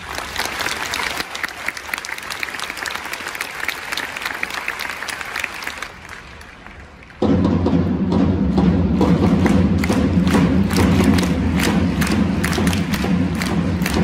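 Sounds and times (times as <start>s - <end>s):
stadium crowd applauding: 0.0s - 7.3s, 9.1s - 14.0s.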